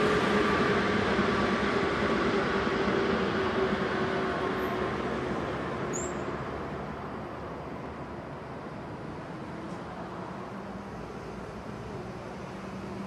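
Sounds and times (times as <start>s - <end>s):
freight train running past: 0.0s - 13.0s.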